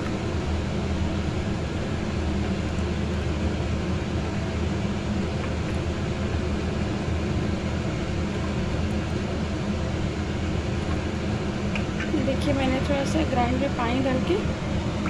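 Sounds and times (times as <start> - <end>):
underlying hum: 0.0 - 15.0.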